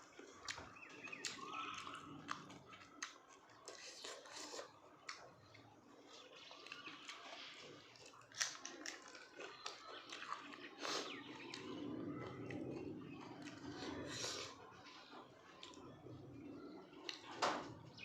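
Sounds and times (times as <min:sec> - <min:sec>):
person chewing food: 0:00.0 - 0:17.3.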